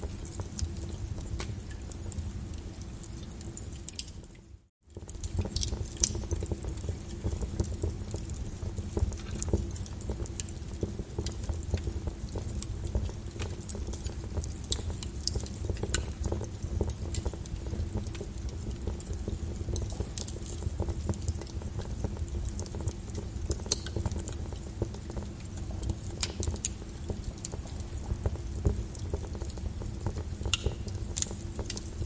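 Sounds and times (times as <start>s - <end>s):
fire pops and snaps: 0.0s - 32.0s
wood fire crackling: 0.0s - 32.0s.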